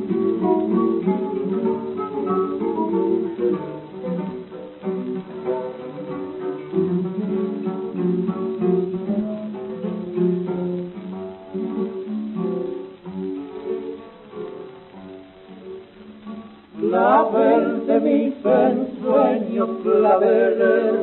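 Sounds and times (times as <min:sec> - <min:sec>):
folk guitar melody over chords: 0:00.0 - 0:21.0.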